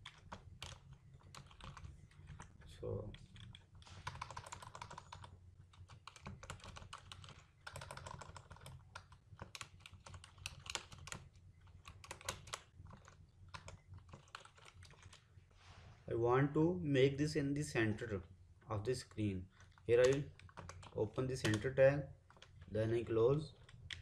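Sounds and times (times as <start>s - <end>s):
faint keyboard typing: 0.0s - 15.3s, 17.9s - 24.0s.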